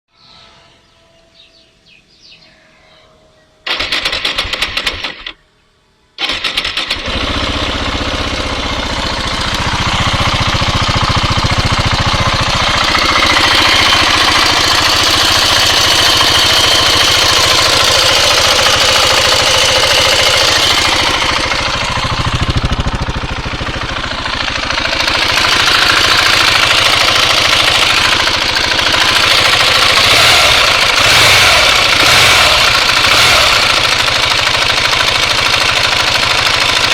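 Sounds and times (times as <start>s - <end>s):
motorcycle engine starting and running: 3.6s - 5.4s, 6.2s - 36.9s.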